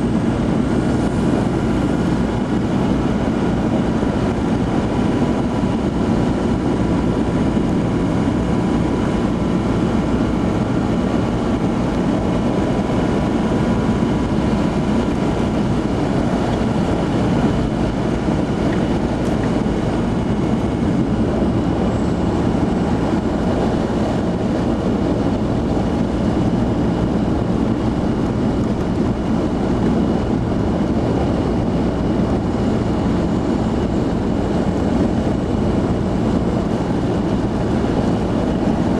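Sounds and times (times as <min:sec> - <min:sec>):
vehicle engine and tyre noise: 0:00.0 - 0:38.9.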